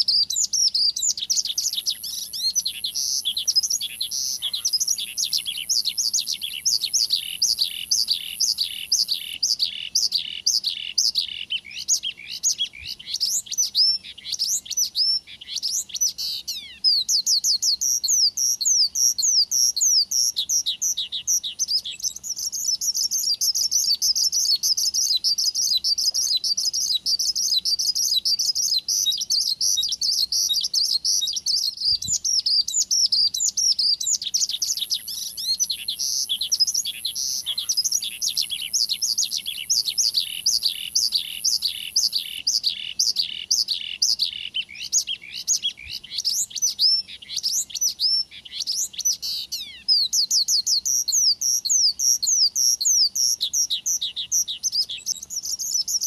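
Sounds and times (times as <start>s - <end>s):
bush lark singing: 0.0s - 56.0s.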